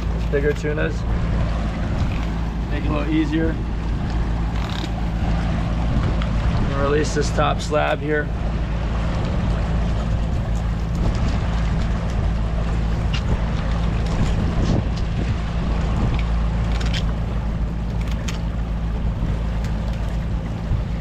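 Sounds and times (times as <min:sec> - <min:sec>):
boat engine humming: 0:00.0 - 0:21.0
water rushing: 0:00.0 - 0:21.0
wind buffeting microphone: 0:00.0 - 0:21.0.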